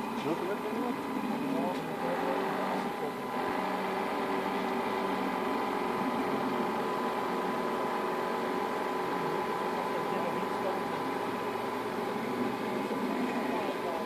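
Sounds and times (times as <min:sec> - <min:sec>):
small motors humming and whining: 0:00.0 - 0:14.0.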